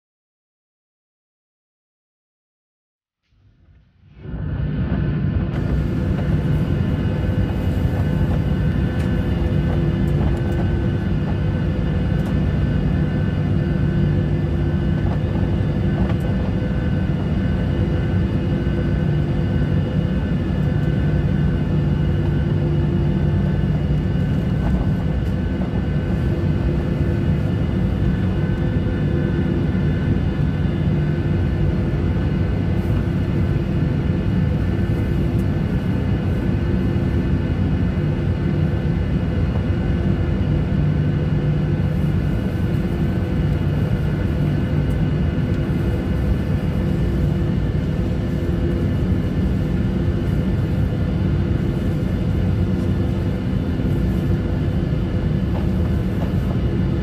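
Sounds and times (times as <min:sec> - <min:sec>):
jet engines rumbling in cabin: 0:03.4 - 0:57.0.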